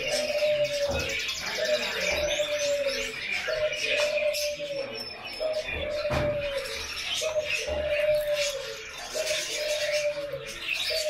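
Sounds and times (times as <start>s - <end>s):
bird cooing: 0.0s - 11.0s.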